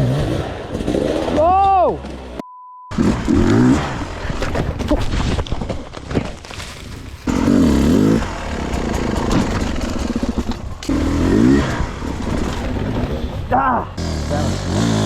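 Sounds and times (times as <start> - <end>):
dirt bike engine revving: 0.0 - 4.4, 7.3 - 15.0.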